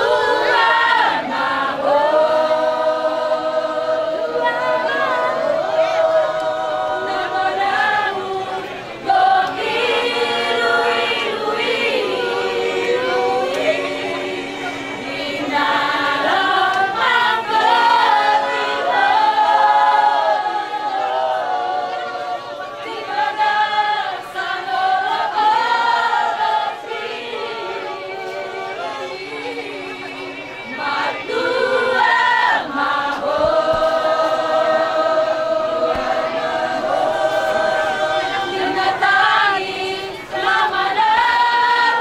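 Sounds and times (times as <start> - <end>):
group singing without instruments: 0.0 - 42.0.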